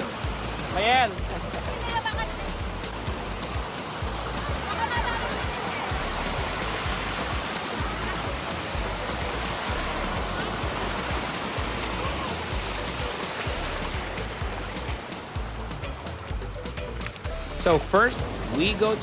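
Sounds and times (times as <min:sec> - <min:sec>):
faint background music: 0:00.0 - 0:19.0
waterfall rushing: 0:00.0 - 0:19.0.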